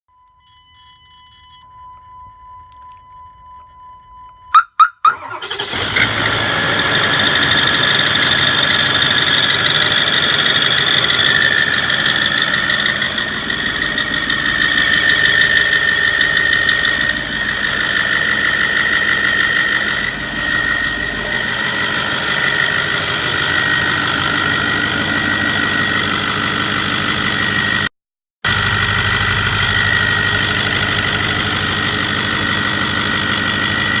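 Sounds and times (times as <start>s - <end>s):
high-pitched whine: 0.1s - 4.7s, 6.4s - 27.9s, 28.5s - 34.0s
diesel engine running: 0.4s - 34.0s.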